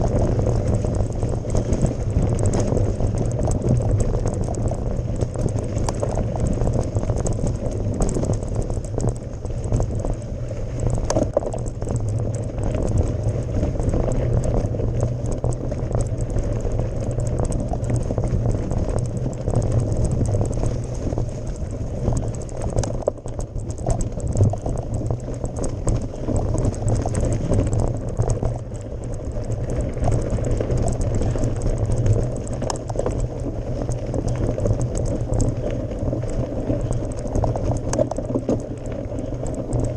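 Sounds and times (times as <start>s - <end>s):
bike tyres crunching on gravel: 0.0s - 39.9s
small ticks and knocks: 0.0s - 39.9s.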